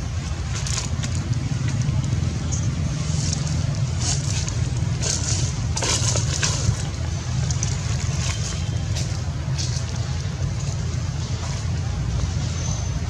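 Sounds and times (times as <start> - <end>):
crackling rustles: 0.0 - 12.7.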